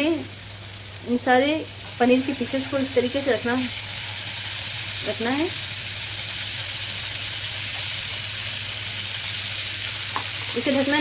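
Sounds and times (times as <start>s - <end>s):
cheese sizzling in butter: 0.0s - 11.0s.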